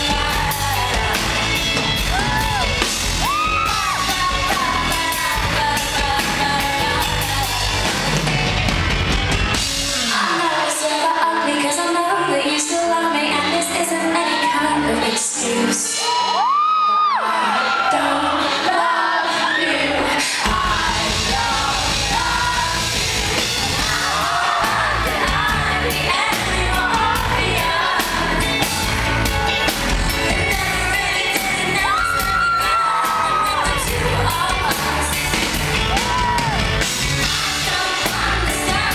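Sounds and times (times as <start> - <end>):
woman singing: 0.0 - 2.6, 3.3 - 7.9, 9.9 - 28.9, 30.1 - 36.4, 37.2 - 38.9
live pop band playing: 0.0 - 38.9.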